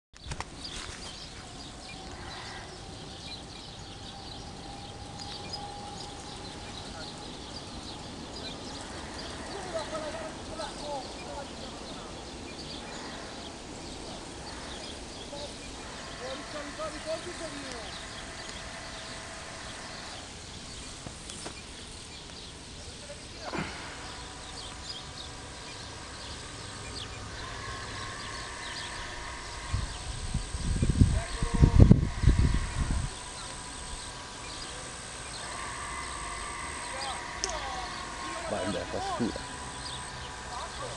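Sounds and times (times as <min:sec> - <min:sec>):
birds chirping: 0:00.2 - 0:40.9
faint hum: 0:00.2 - 0:40.9
faint steady whine: 0:00.2 - 0:40.9
outdoor background hiss: 0:00.2 - 0:40.9.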